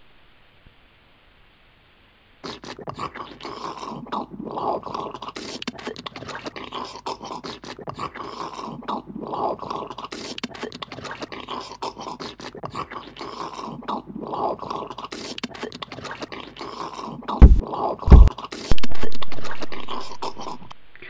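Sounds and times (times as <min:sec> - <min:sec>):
chewing and crunching: 0:02.4 - 0:20.8.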